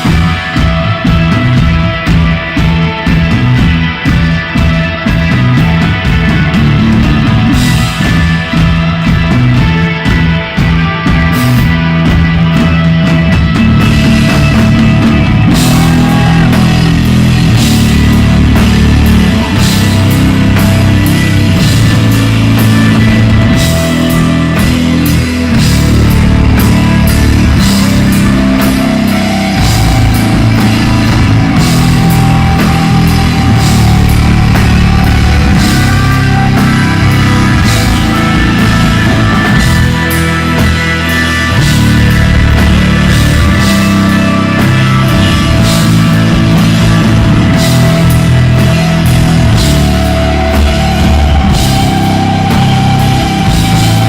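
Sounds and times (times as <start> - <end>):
drums and cymbal hits: 0.0 - 54.0
electric guitar: 0.0 - 54.0
heavy bass line: 0.0 - 54.0.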